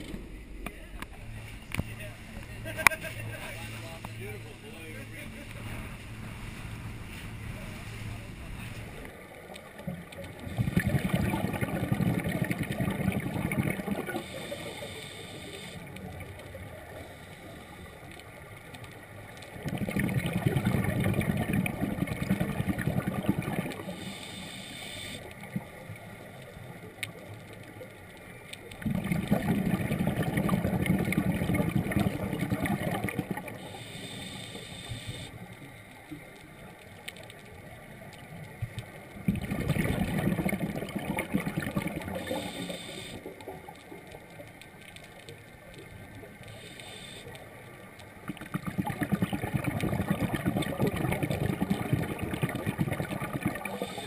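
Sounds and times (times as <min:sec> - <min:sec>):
exhaled bubbles gurgling underwater: 0:07.3 - 0:54.0.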